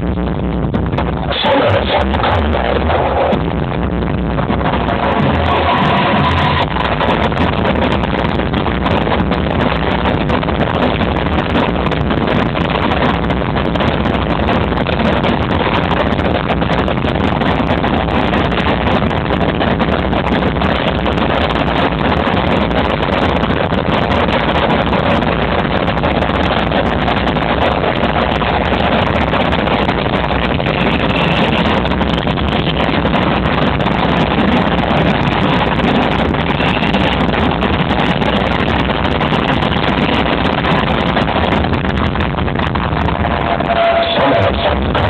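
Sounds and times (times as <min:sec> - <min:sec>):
distorted dance music: 0:00.0 - 0:45.0.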